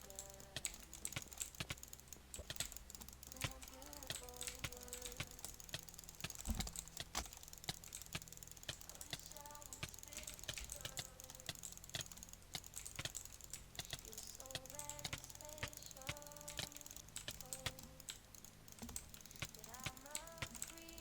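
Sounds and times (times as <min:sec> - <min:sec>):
rapid irregular clicks: 0:00.0 - 0:21.0.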